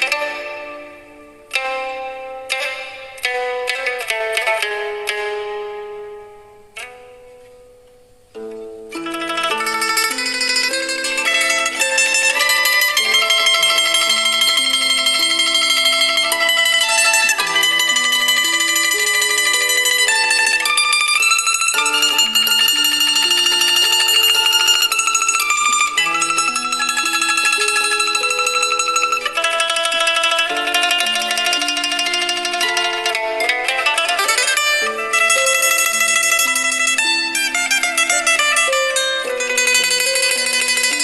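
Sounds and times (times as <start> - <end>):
plucked-string melody: 0.0 - 41.0.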